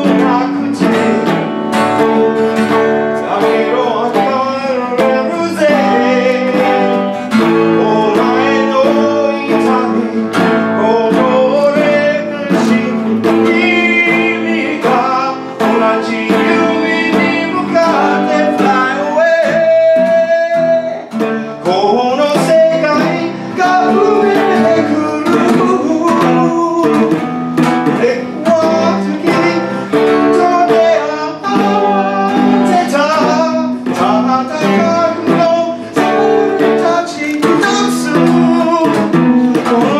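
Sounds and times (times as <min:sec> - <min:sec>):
acoustic guitar strumming: 0:00.0 - 0:39.9
electric guitar playing: 0:00.0 - 0:39.9
man singing: 0:00.0 - 0:39.9.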